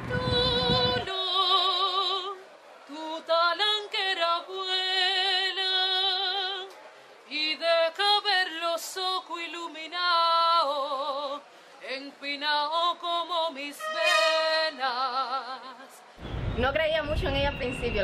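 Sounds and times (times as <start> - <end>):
woman singing operatically: 0.0 - 6.7, 7.4 - 16.0.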